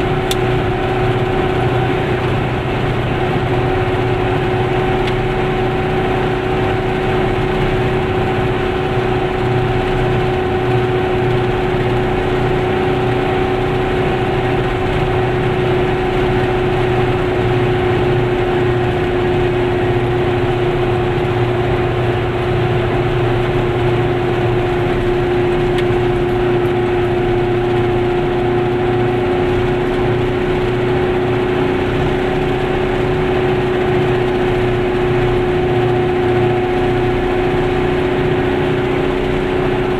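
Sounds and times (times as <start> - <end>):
road noise: 0.0 - 39.9
two-stroke car engine droning: 0.0 - 39.9.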